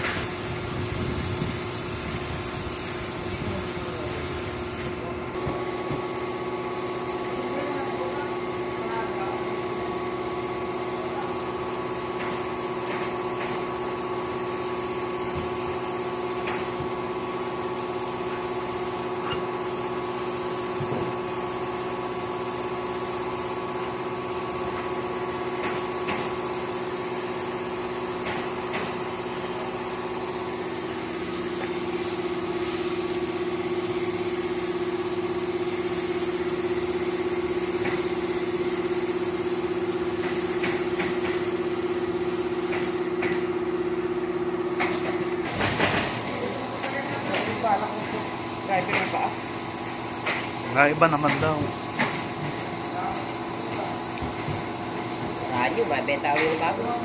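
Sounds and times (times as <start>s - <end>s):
air compressor motor drone: 0.0s - 57.0s.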